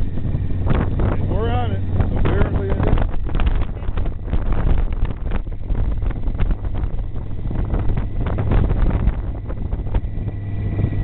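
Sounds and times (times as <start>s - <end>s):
motorcycle engine drone: 0.0s - 11.0s
wind buffeting microphone: 0.0s - 11.0s.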